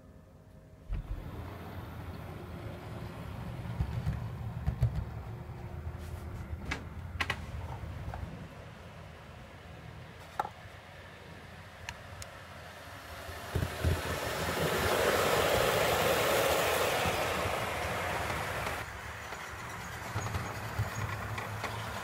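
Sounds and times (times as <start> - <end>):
model locomotive rumbling: 0.9 - 22.0.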